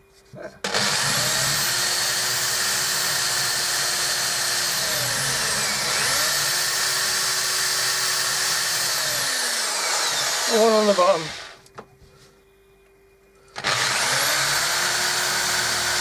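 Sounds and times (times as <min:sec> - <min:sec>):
electric drill boring into wood: 0:00.6 - 0:11.6, 0:13.6 - 0:16.0.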